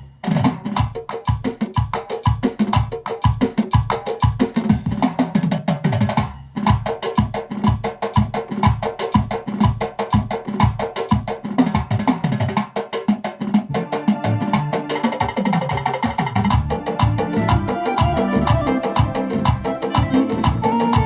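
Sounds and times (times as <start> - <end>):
keyboard drum and percussion groove: 0.0 - 21.0.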